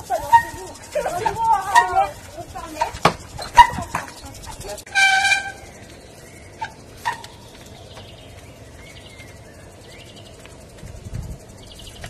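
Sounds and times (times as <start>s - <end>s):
low rumble of wind: 0.0s - 12.0s.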